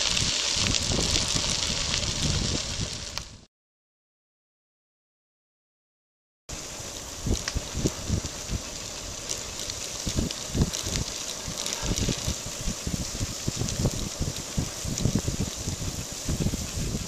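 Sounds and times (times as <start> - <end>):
bicycle tyres rolling on gravel: 0.0 - 3.5, 6.5 - 17.0
wind buffeting microphone: 0.0 - 3.5, 6.5 - 17.0.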